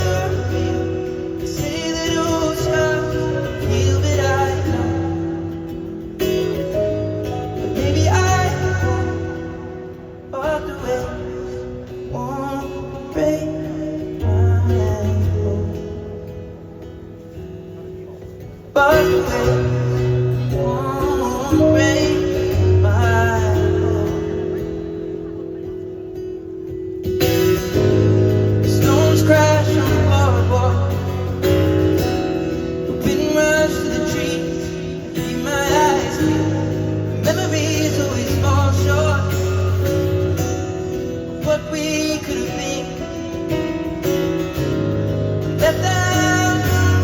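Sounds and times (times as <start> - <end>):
man singing: 0.0 - 16.7, 18.4 - 25.8, 27.4 - 47.0
acoustic guitar: 0.0 - 47.0.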